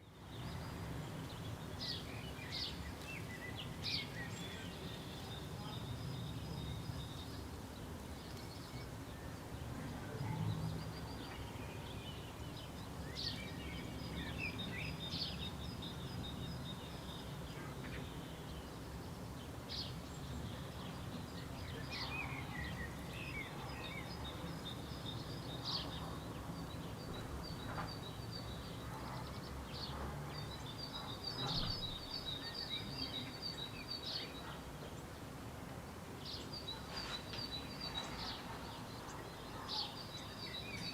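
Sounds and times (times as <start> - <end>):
small birds trilling: 0.1 - 35.4.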